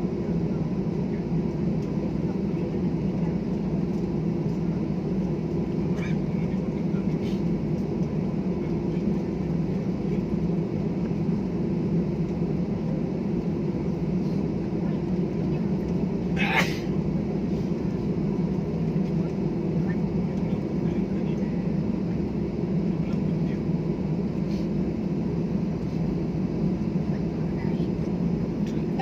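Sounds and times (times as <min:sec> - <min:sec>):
airliner cabin noise: 0:00.0 - 0:29.0.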